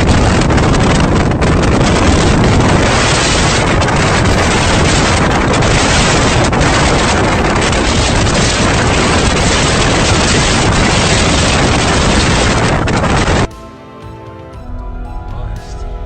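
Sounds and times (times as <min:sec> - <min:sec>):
strong wind blasting microphone: 0:00.0 - 0:13.5.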